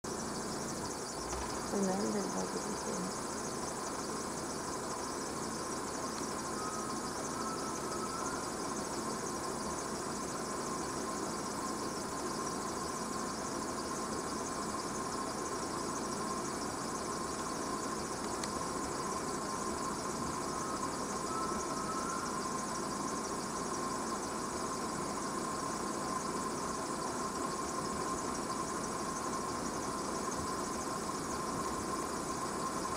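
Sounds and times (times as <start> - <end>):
insects buzzing: 0.1 - 32.9.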